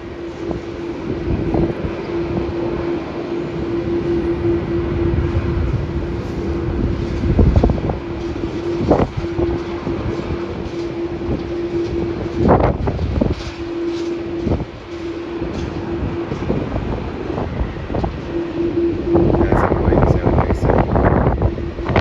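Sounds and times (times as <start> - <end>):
jet engines roaring: 0.0 - 22.0
wind buffeting microphone: 0.0 - 22.0.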